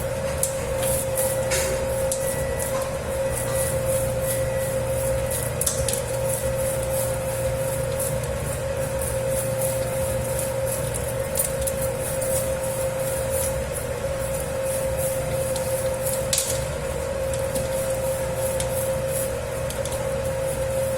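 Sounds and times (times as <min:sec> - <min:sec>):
dough mixer motor hum: 0:00.0 - 0:20.9
dough swishing in bowl: 0:00.0 - 0:20.9.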